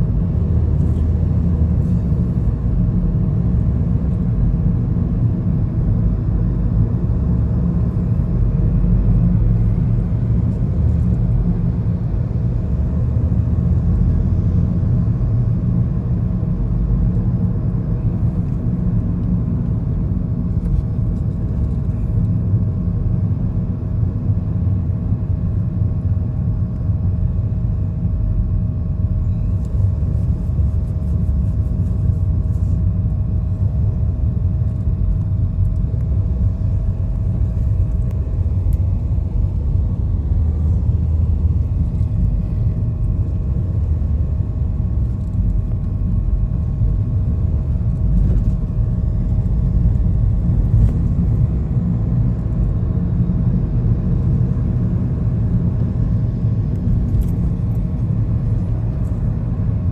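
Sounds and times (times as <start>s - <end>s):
faint steady whine: 0.0s - 59.9s
road vehicle rumble: 0.0s - 59.9s.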